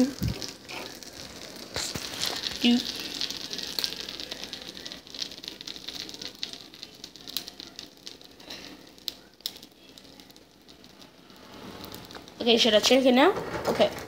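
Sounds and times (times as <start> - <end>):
batter sizzling in a frying pan: 0.0 - 14.0.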